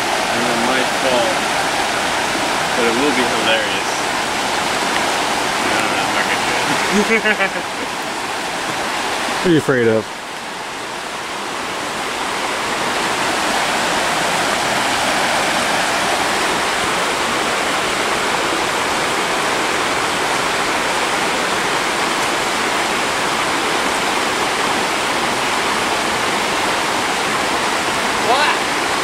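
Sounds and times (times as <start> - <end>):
river rapids rushing over rocks: 0.0 - 29.0.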